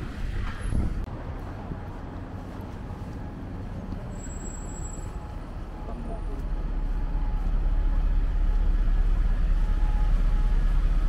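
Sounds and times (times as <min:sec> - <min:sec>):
low vehicle rumble: 0:00.0 - 0:11.0.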